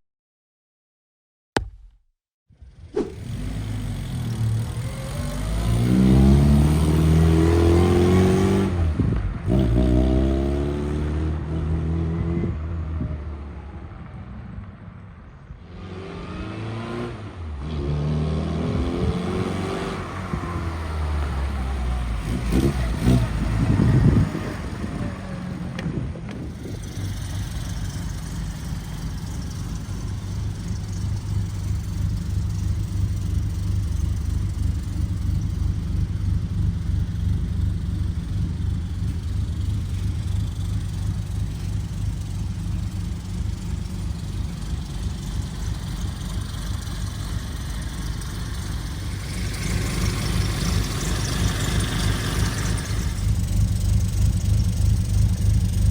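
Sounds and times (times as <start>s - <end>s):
car engine revving and idling: 2.6s - 14.0s, 15.7s - 55.9s.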